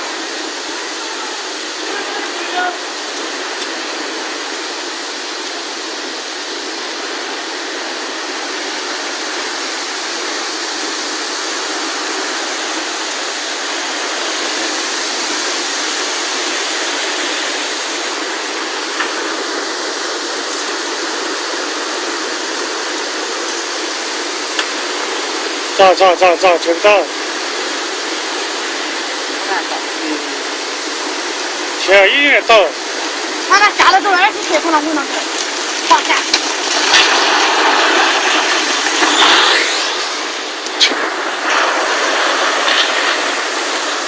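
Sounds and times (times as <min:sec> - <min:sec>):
floodwater rushing: 0:00.0 - 0:44.0.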